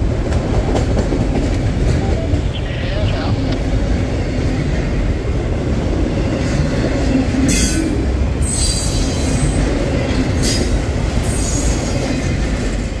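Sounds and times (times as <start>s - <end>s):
train cars rumbling past: 0.0s - 13.0s.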